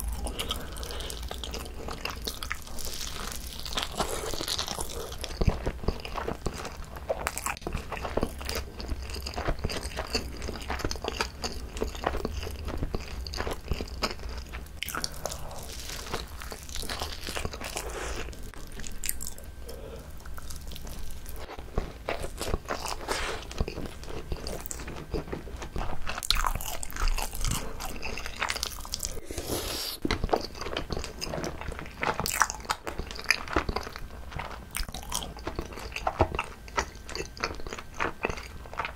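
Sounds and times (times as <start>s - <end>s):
biting and chewing food: 0.0s - 38.9s.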